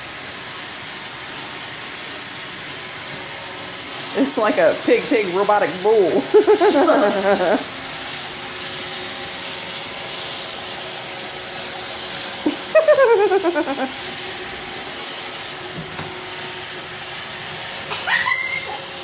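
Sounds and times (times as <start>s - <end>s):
robot vacuum whirring: 0.2s - 19.0s.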